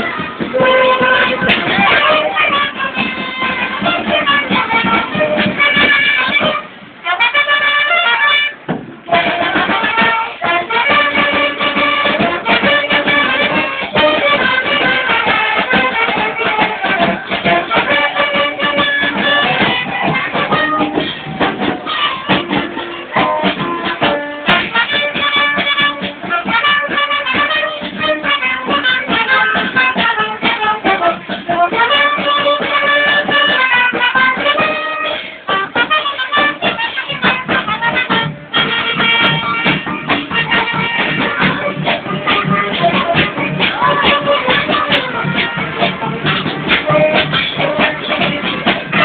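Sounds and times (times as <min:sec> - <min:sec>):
bass drum: 0:00.0 - 0:07.7, 0:08.6 - 0:49.0
snare drum: 0:00.0 - 0:49.0
wind-instrument melody: 0:00.0 - 0:49.0.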